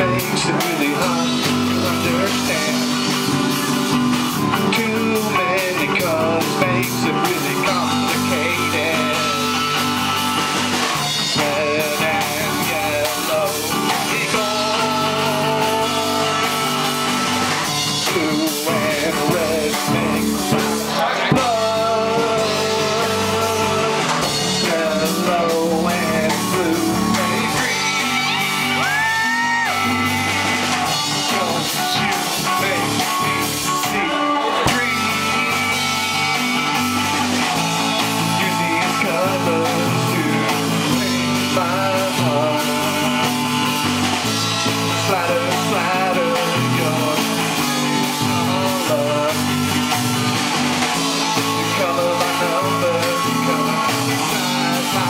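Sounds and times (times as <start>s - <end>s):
drum kit: 0.0s - 55.0s
guitar: 0.0s - 55.0s
keyboard: 0.0s - 55.0s
person singing: 0.0s - 55.0s.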